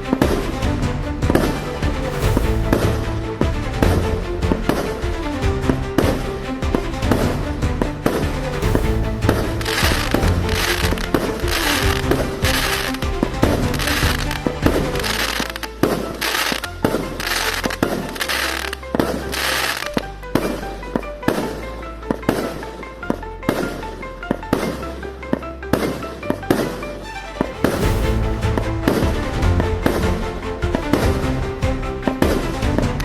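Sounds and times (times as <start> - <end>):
background music with bass: 0.0 - 33.0.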